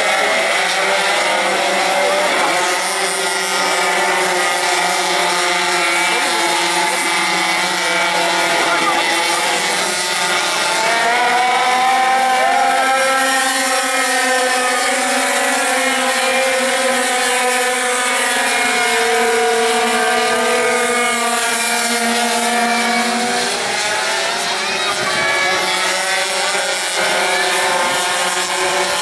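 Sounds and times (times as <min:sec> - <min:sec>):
small engines buzzing: 0:00.0 - 0:29.0.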